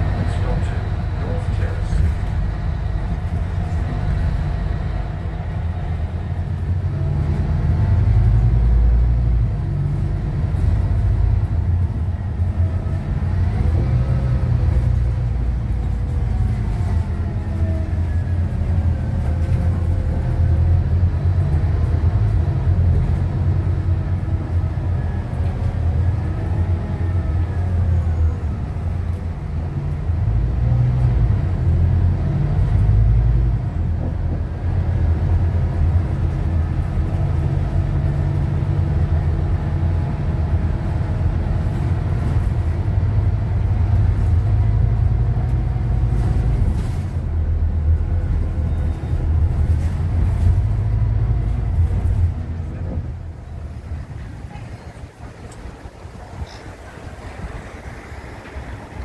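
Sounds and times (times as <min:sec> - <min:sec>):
bus engine and road rumble: 0:00.0 - 0:59.0
bus whine: 0:00.0 - 0:59.0.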